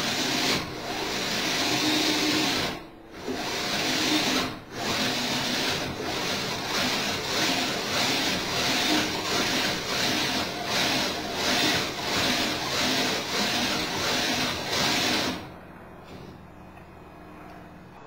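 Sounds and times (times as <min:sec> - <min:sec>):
electric winches whirring: 0:00.0 - 0:15.6.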